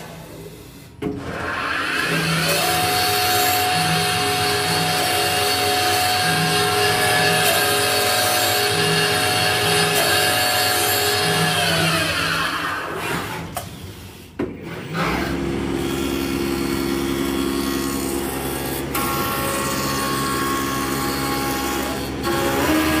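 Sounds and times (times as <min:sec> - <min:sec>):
cnc router spindle whine: 0:00.0 - 0:13.9, 0:14.8 - 0:23.0
wood lathe cutting: 0:01.2 - 0:13.4, 0:14.8 - 0:23.0.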